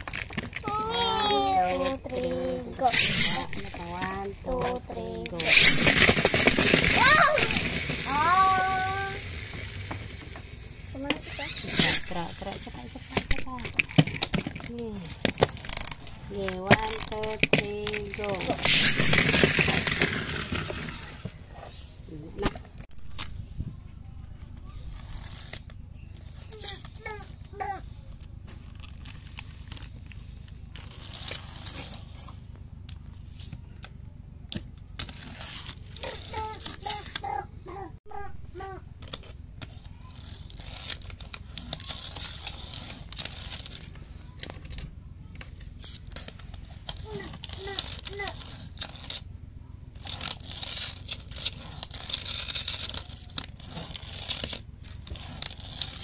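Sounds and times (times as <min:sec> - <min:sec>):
plastic toys clicking and scraping: 0:00.0 - 0:56.0
steady low background hum: 0:00.0 - 0:56.0.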